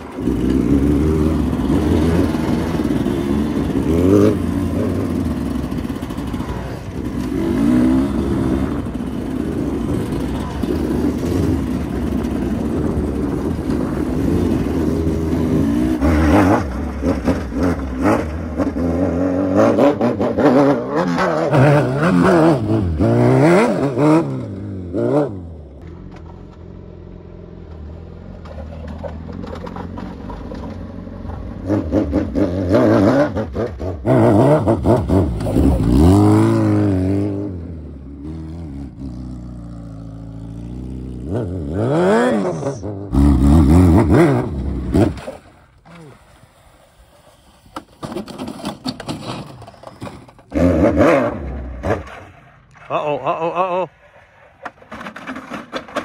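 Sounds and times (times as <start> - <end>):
motorcycle engine revving: 0.0 - 46.1, 50.4 - 52.7.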